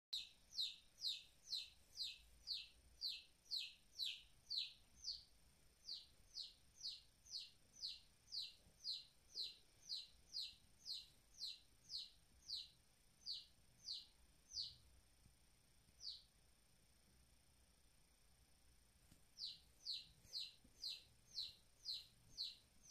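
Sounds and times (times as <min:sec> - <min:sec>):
baby chicks peeping: 0:00.2 - 0:14.9, 0:15.9 - 0:16.3, 0:19.4 - 0:22.9.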